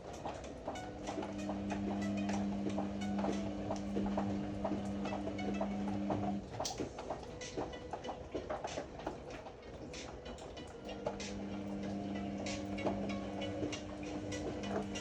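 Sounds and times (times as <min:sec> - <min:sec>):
washer-dryer motor hum: 0:00.0 - 0:15.0.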